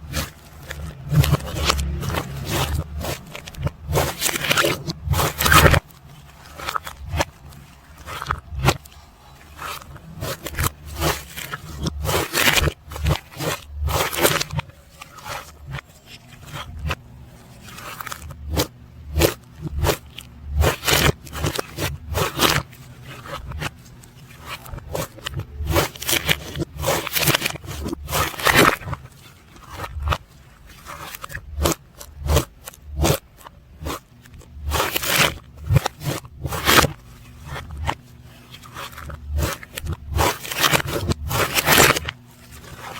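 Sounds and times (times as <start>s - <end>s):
reversed slime squelching and crackling: 0.0s - 42.9s.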